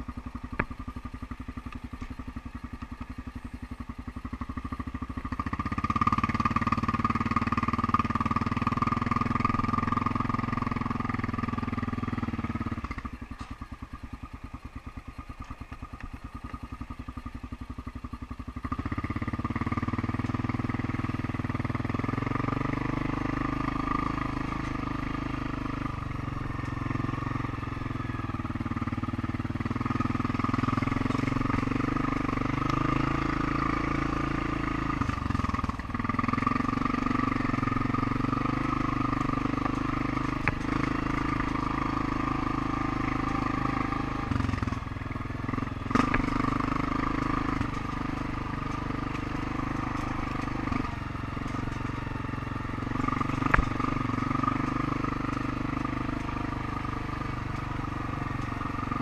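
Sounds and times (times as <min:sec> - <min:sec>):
atv engine idling and revving: 0:00.0 - 0:59.0.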